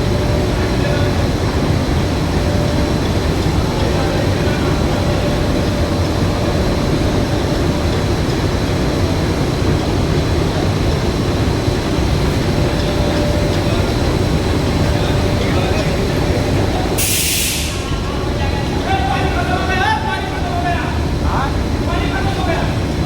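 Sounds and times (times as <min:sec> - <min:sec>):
faint steady whine: 0:00.0 - 0:23.0
machine humming: 0:00.0 - 0:23.0.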